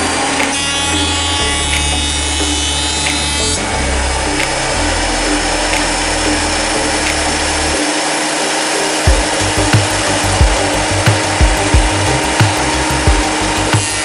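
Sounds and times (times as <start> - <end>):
background music with low beat: 0.0 - 7.8, 9.1 - 14.0.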